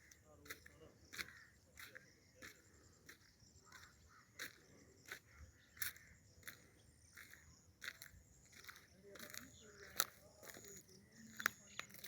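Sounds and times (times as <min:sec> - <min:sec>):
crunching footsteps: 0:00.0 - 0:12.0.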